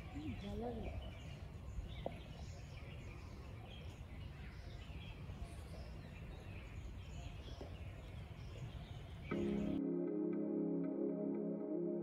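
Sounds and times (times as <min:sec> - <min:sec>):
birds chirping and calling: 0:00.0 - 0:09.8.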